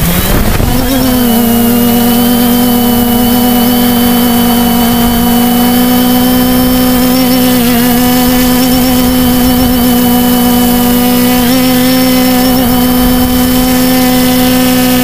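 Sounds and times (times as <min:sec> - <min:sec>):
quadcopter motors droning: 0:00.0 - 0:15.0.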